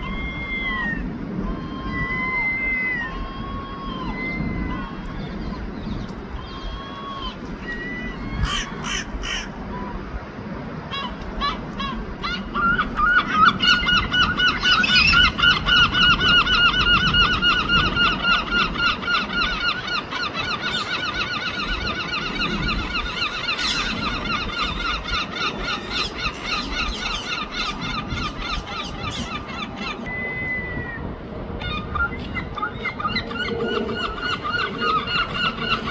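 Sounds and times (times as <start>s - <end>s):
gulls yelping calls: 0.0s - 10.0s, 10.8s - 35.9s.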